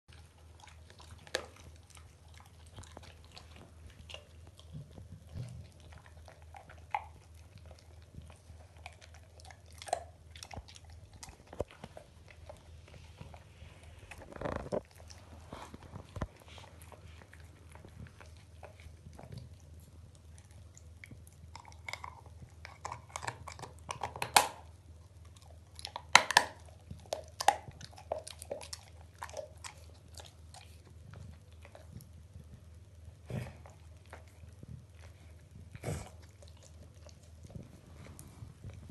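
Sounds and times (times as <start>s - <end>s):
dog gnawing a bone: 0.1s - 38.9s.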